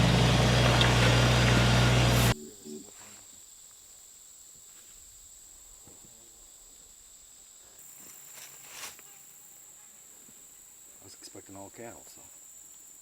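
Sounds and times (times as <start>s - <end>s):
insects trilling: 2.3s - 13.0s.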